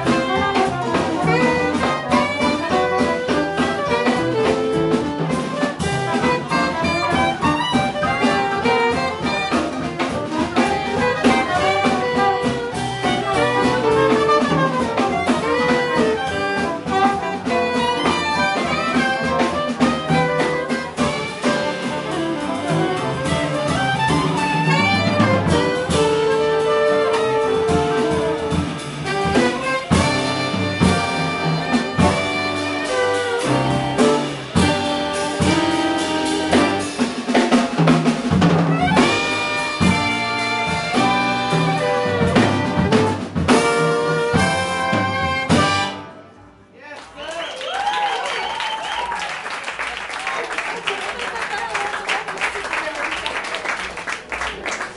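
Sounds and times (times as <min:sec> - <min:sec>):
soprano saxophones: 0:00.0 - 0:37.0, 0:38.8 - 0:46.4
trombone: 0:00.0 - 0:46.4
jazz band playing: 0:00.0 - 0:54.9.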